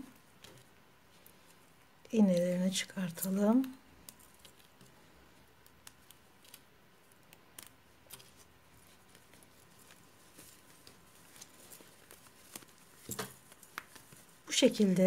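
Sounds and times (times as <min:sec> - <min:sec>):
light handling rustle: 0:00.1 - 0:14.9.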